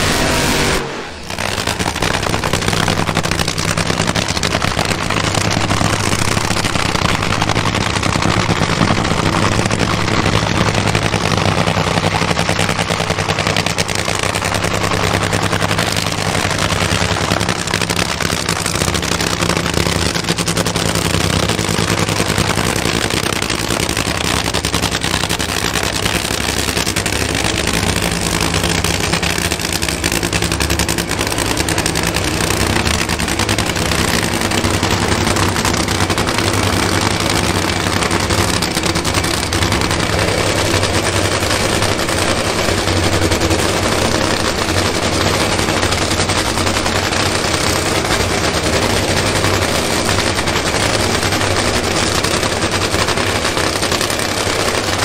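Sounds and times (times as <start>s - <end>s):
drag racing engine idling: 0.0s - 55.0s.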